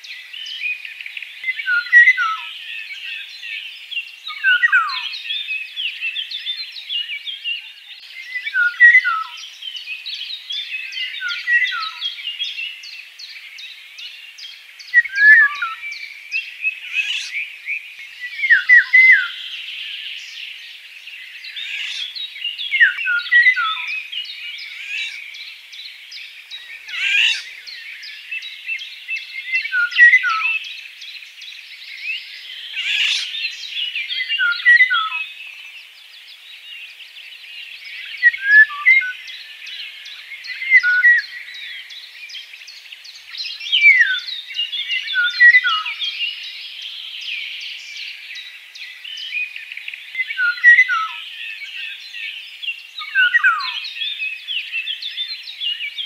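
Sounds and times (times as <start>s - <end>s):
bird singing fluty whistles: 0.0s - 20.4s, 21.2s - 35.7s, 37.6s - 56.0s
songbirds chirping: 0.0s - 56.0s.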